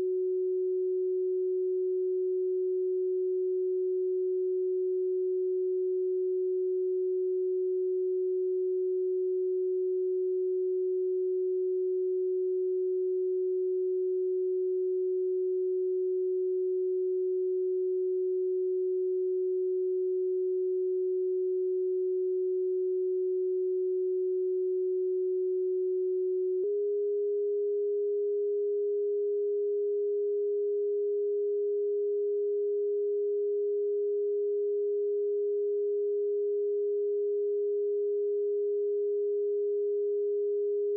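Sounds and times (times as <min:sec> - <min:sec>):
electronic sine tone: 0:00.0 - 0:40.9.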